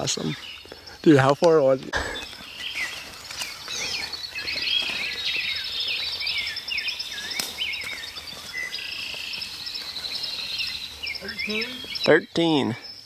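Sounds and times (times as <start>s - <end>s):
songbirds singing: 0.0s - 13.0s.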